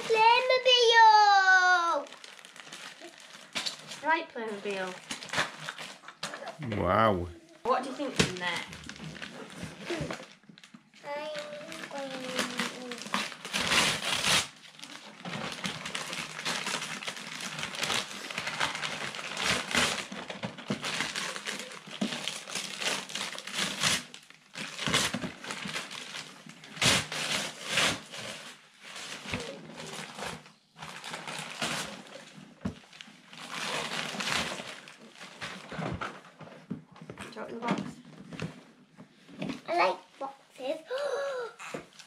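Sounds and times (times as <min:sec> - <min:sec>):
wrapping paper tearing: 0:00.0 - 0:07.2, 0:07.9 - 0:36.0.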